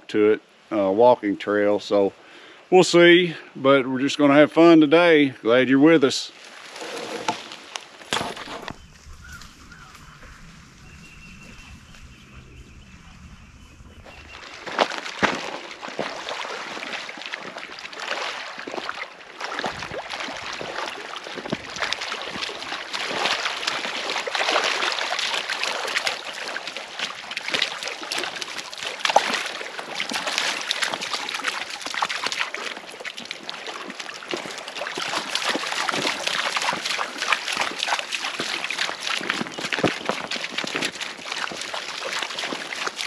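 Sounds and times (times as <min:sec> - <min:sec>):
waves lapping on gravel shore: 0:06.3 - 0:43.0.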